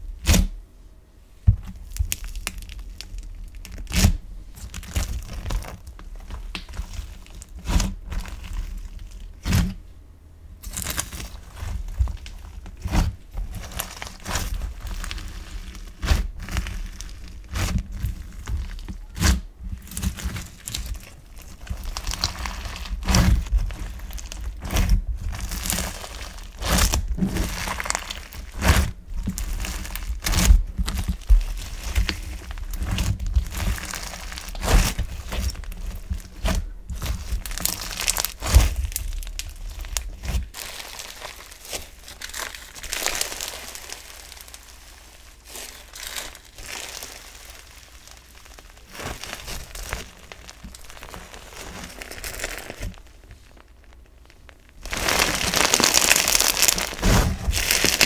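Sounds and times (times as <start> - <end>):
foam slime crunching and crackling: 0.0 - 0.6, 1.5 - 9.8, 10.6 - 58.0.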